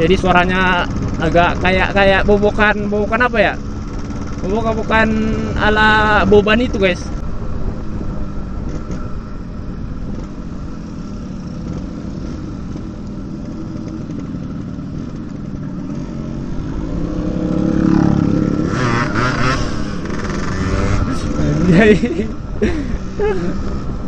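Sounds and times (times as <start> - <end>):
two-stroke motorcycle engine revving: 0.0 - 7.2, 7.9 - 24.0.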